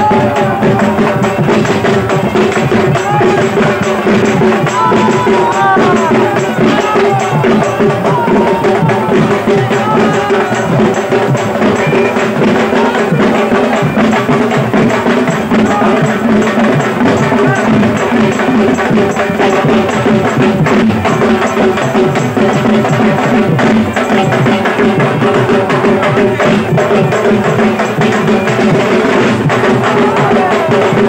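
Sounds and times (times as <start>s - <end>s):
other percussion: 0.0s - 31.0s.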